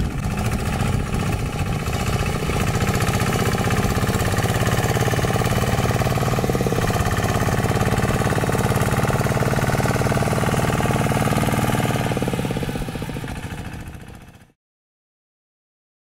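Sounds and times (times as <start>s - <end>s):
diesel engine running steadily: 0.0s - 14.6s.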